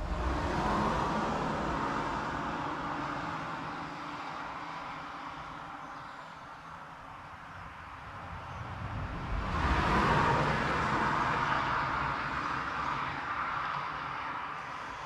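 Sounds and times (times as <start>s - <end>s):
vehicle passing on highway: 0.0s - 6.2s, 7.8s - 14.7s.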